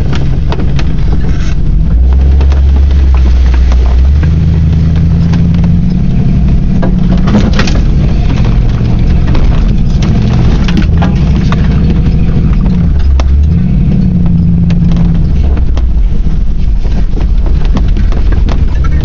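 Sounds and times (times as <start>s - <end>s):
knocks and rattles of bouncing truck: 0.0s - 19.0s
truck engine revving under load: 0.0s - 19.0s.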